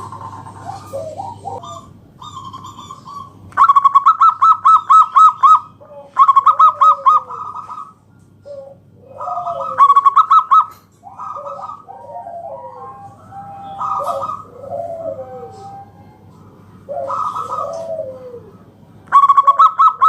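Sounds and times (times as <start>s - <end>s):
dove cooing: 0.0s - 20.0s
soft bird calls: 0.0s - 20.0s.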